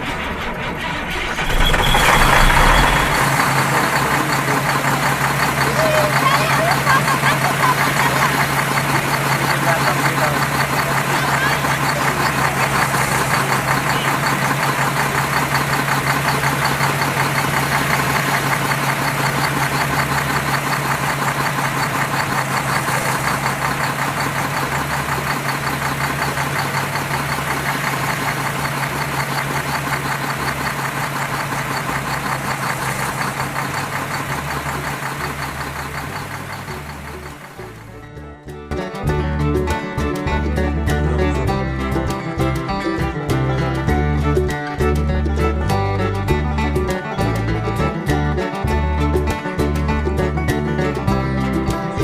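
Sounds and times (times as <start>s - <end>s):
engine knocking steadily: 0.0s - 38.2s, 38.8s - 52.0s.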